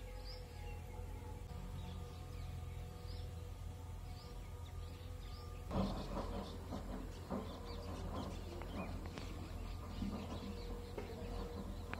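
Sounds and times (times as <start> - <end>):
small birds chirping: 0.0 - 11.9
steady low hum: 0.0 - 11.9.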